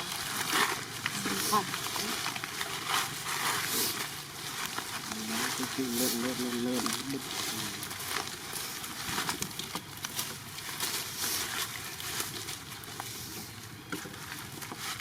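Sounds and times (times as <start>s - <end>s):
rustling and crackling: 0.0s - 15.0s.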